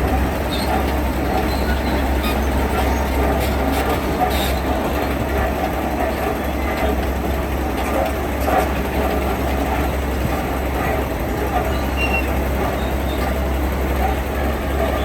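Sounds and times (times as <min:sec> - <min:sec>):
diesel construction machinery rumbling: 0:00.0 - 0:15.0.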